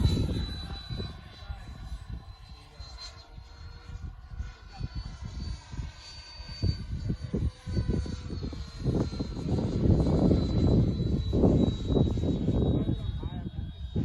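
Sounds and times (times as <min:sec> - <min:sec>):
model jet fans whining: 0:00.0 - 0:14.0
wind buffeting microphone: 0:00.0 - 0:14.0.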